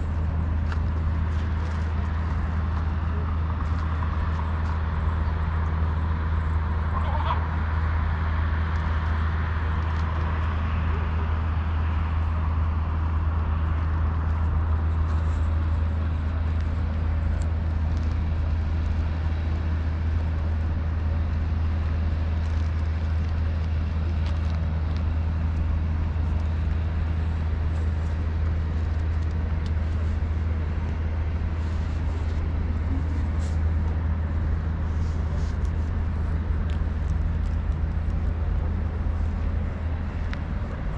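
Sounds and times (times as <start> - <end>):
city hum: 0.0 - 40.9
road traffic rumble: 0.0 - 40.9.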